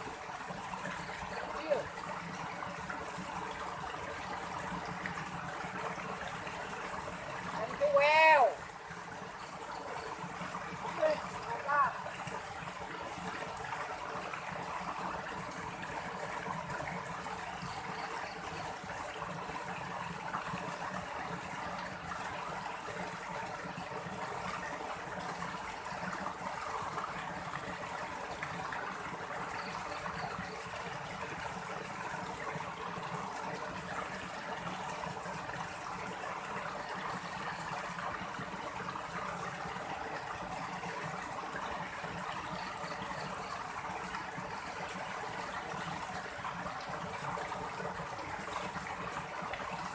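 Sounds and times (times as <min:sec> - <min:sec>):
stream water rushing: 0:00.0 - 0:49.9.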